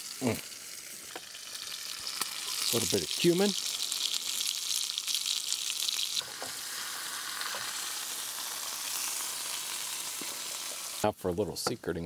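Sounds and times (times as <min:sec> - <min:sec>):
steak and potatoes sizzling in pan: 0:00.0 - 0:11.0.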